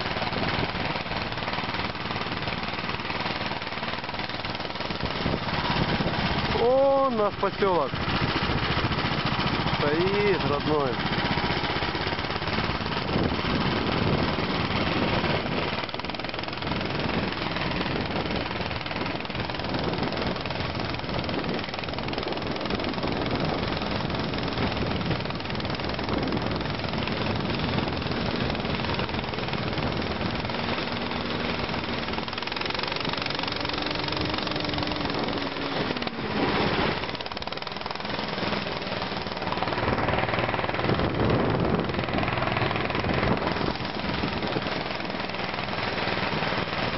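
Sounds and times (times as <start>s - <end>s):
snowmobile engines running: 0.0s - 46.9s.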